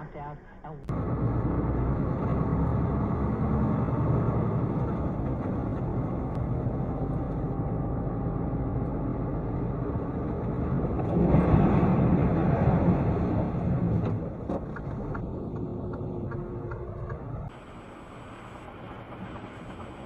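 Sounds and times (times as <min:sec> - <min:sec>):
road and engine noise: 0:00.8 - 0:20.0.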